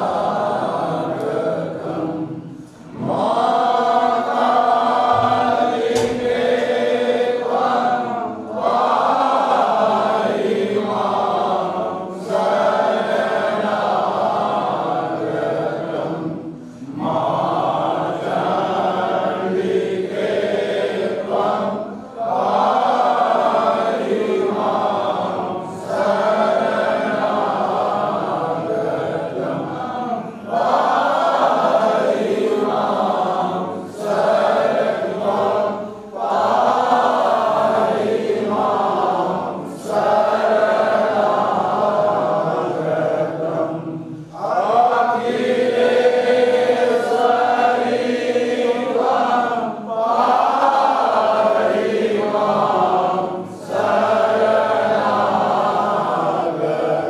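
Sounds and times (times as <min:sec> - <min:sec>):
men chanting a hymn: 0:00.0 - 0:57.0.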